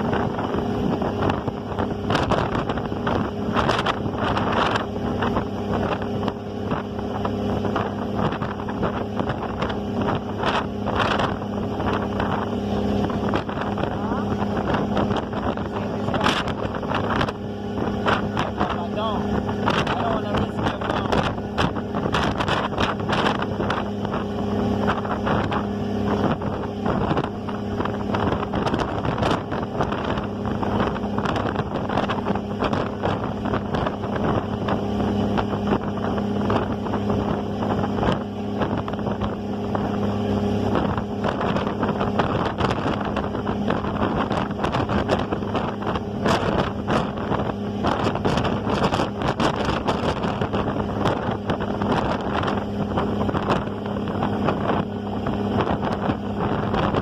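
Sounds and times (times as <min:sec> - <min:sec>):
ferry engine droning: 0:00.0 - 0:57.0
water noise: 0:00.0 - 0:57.0
wind buffeting microphone: 0:00.0 - 0:57.0.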